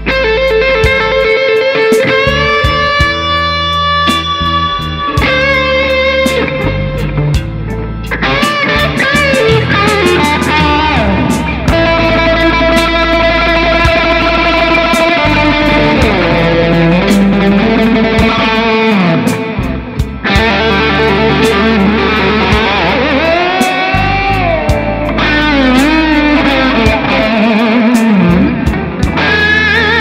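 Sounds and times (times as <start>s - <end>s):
low bass line: 0.0s - 1.4s, 2.1s - 30.0s
electric guitar blues lead: 0.0s - 30.0s.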